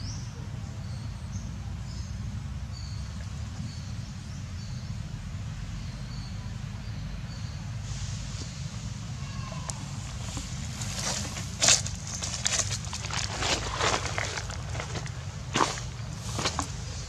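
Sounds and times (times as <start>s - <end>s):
steady low rumble: 1.3s - 17.0s.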